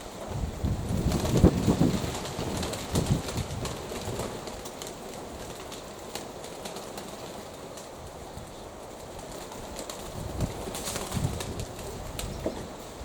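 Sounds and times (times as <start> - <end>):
wind rumble: 0.0 - 6.0, 7.5 - 13.0.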